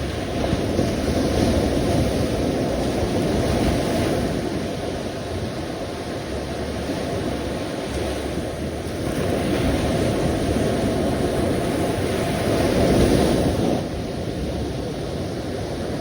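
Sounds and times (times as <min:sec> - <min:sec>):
sea waves washing on shore: 0:00.0 - 0:16.0.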